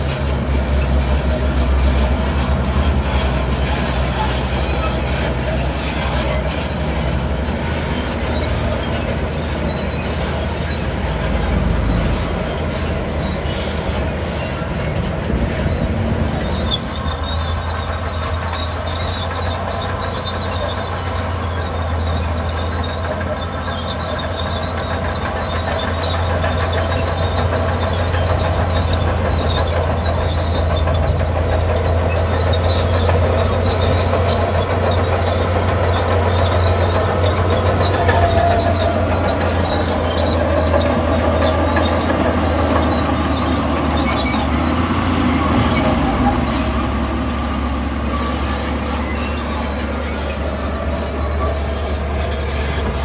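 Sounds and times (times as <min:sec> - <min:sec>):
bulldozer diesel engine droning: 0:00.0 - 0:53.0
faint high metallic squeaks: 0:00.7 - 0:53.0.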